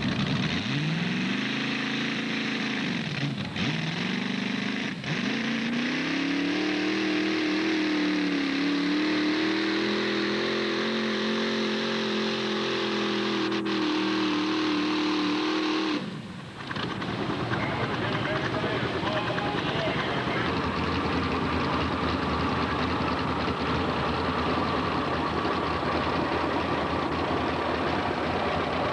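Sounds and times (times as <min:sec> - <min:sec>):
tractor engine at high revs: 0:00.0 - 0:28.9.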